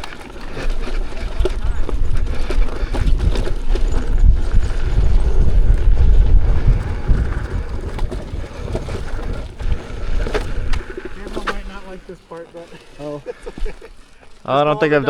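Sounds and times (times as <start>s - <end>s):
electric unicycle rumble: 0.0s - 15.0s
wind buffeting microphone: 0.0s - 15.0s.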